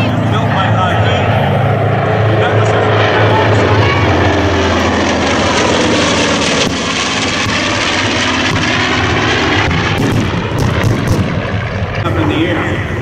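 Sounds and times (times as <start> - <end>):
propeller planes droning overhead: 0.0 - 13.0.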